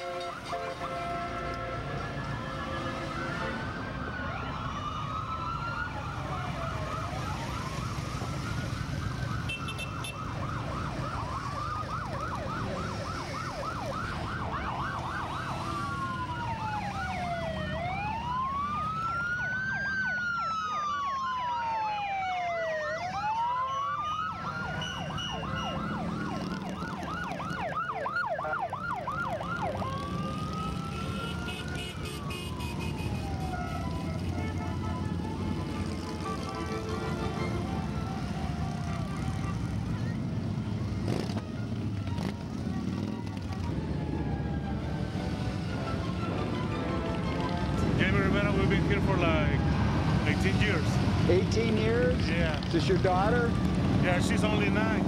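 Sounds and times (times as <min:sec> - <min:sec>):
motorcycle engines rumbling: 0:00.0 - 0:55.0
police sirens wailing and yelping: 0:00.0 - 0:55.0.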